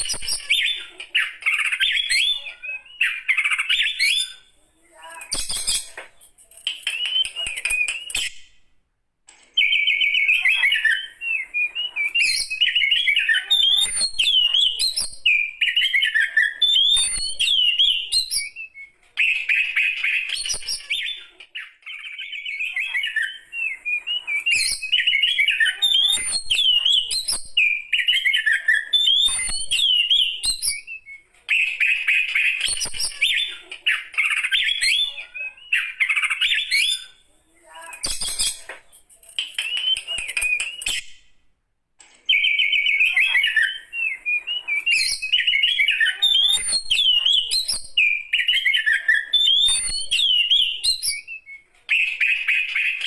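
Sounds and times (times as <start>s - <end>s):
songbird whistling and chattering: 0.0s - 8.6s, 9.6s - 41.3s, 42.3s - 53.0s.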